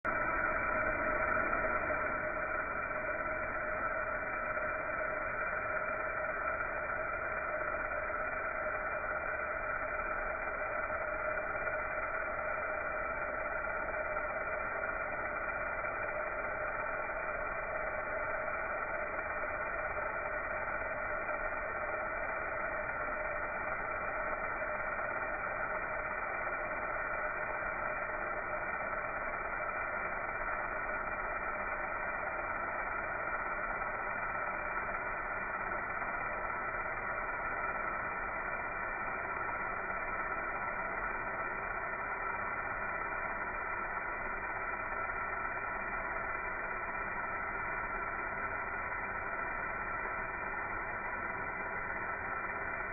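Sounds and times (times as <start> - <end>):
laser welding machine humming: 0.0 - 52.9.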